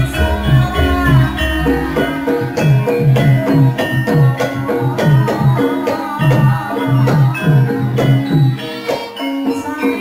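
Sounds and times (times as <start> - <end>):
low melodic line: 0.0 - 8.6
struck pitched percussion: 0.0 - 10.0.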